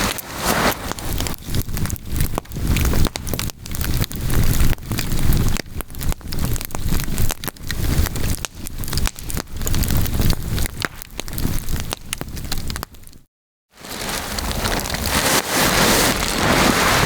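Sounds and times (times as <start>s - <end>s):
campfire crackling and popping: 0.0s - 13.2s, 13.8s - 17.0s.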